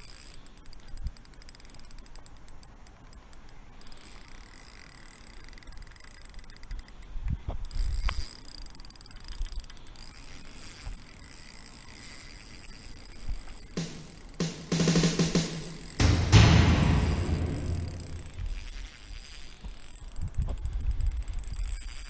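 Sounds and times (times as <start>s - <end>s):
fishing reel winding: 0.0s - 14.4s, 18.6s - 22.0s.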